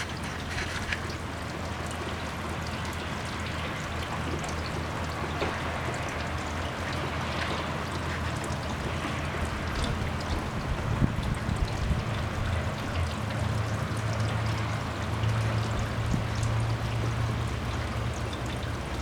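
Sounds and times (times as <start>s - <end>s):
rainwater running down rain chain: 0.0s - 19.0s
water drips: 0.0s - 19.0s.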